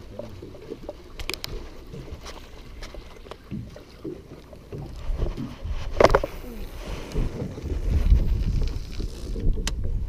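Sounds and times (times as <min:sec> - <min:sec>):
boat engine rumble: 0:00.0 - 0:10.0
water against hull: 0:00.0 - 0:10.0.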